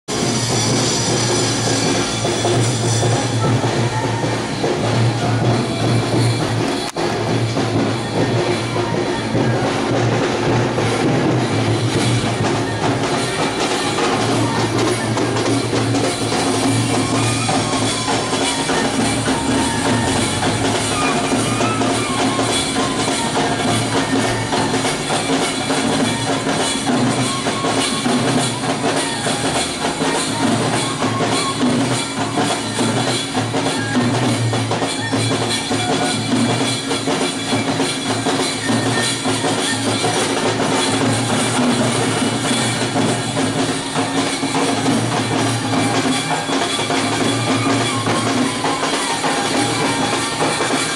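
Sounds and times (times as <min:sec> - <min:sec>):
drums beating: 0:00.1 - 0:50.9
marching band playing: 0:00.1 - 0:50.9.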